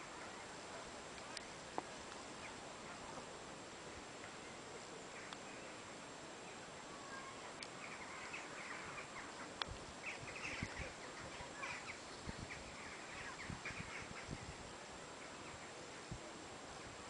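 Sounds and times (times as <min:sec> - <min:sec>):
birds chirping: 0:00.0 - 0:16.2
steady outdoor hiss: 0:00.0 - 0:17.0.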